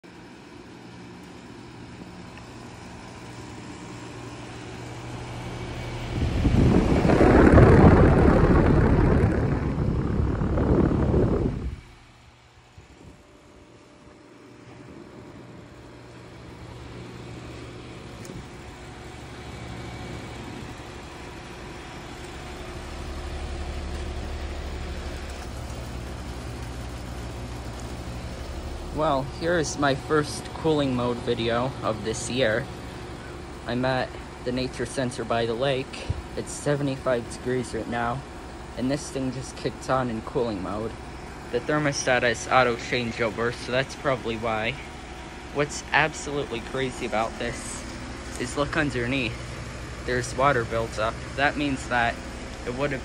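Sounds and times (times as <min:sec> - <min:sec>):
heat pump humming with fan noise: 0:00.0 - 0:53.0.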